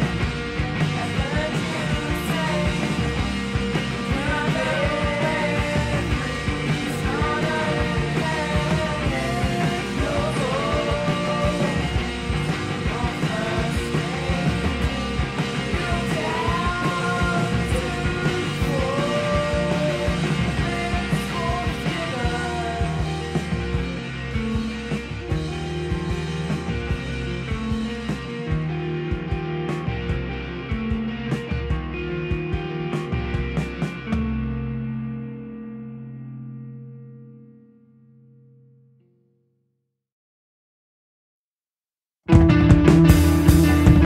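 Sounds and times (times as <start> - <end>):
rock band with singing: 0.0 - 34.7, 42.3 - 44.0.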